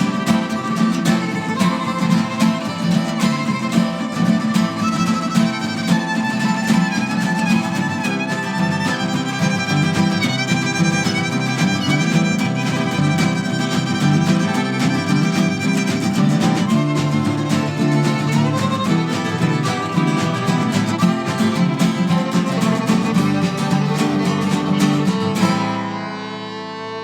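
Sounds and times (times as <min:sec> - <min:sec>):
acoustic accompaniment: 0:00.0 - 0:27.0
lead melody with vibrato: 0:00.0 - 0:27.0.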